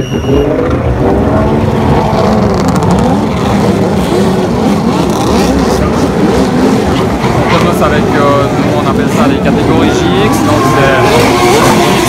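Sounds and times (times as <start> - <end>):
jet ski engines revving: 0.0 - 12.0.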